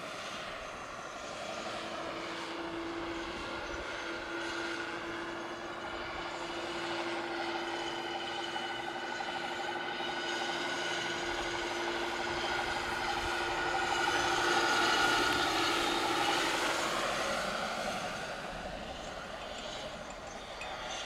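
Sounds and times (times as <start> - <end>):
model helicopter rotor whine: 0.0 - 21.0.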